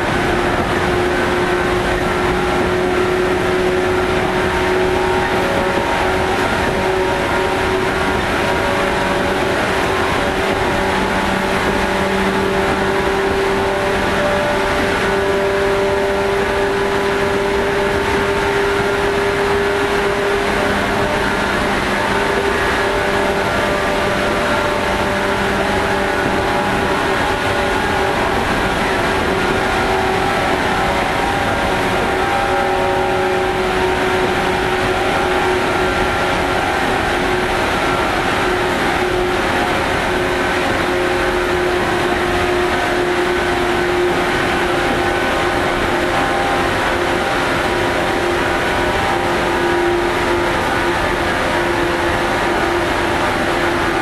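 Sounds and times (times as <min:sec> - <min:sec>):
electric train motor whine: 0:00.0 - 0:54.0
wheels rumbling on rail: 0:00.0 - 0:54.0.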